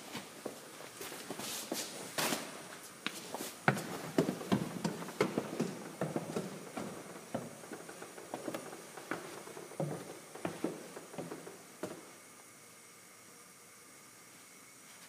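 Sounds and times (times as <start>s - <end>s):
footsteps walking: 0.0s - 12.2s.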